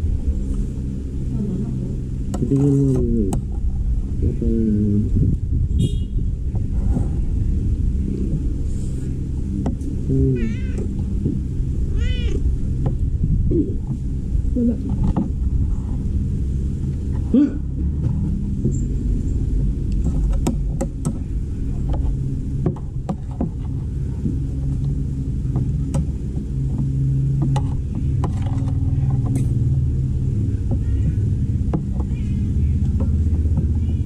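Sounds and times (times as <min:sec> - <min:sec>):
low mechanical rumble: 0:00.0 - 0:34.0.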